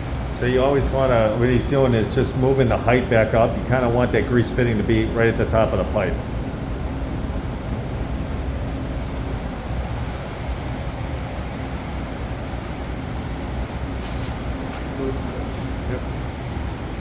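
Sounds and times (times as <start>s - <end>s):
air handling rumble and hiss: 0.0s - 17.0s.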